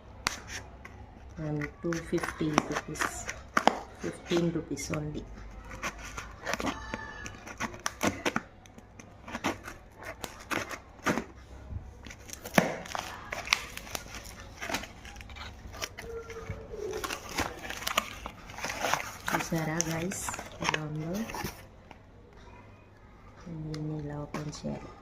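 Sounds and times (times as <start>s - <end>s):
packaging crinkling and tearing: 0.1s - 11.4s, 12.0s - 22.0s.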